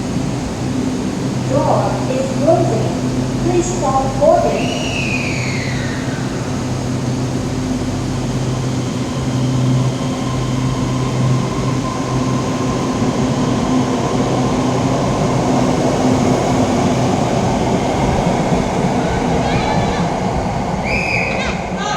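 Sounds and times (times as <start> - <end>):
train running noise: 0.0 - 21.9.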